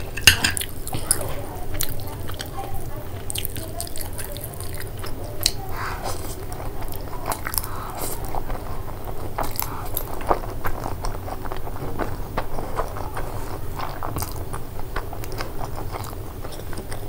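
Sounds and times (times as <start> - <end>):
wet chewing and mouth clicks: 0.0 - 17.0.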